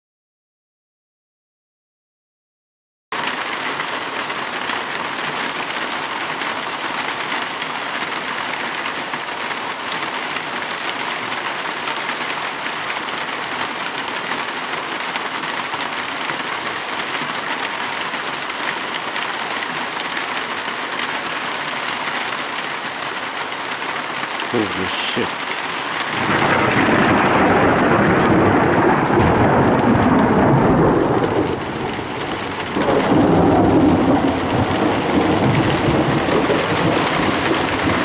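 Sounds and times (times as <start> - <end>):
heavy rain pouring: 3.2 - 38.0.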